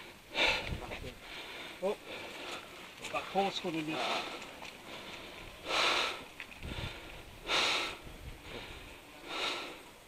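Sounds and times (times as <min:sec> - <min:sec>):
person breathing hard: 0:00.0 - 0:02.8, 0:03.9 - 0:09.9.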